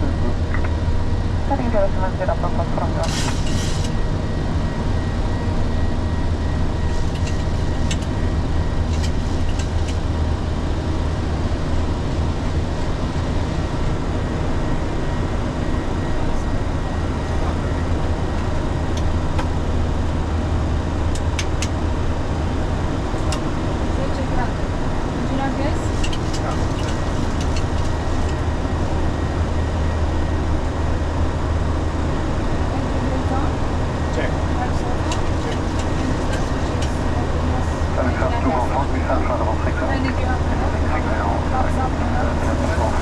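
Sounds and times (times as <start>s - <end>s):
aircraft engine noise: 0.0s - 43.0s.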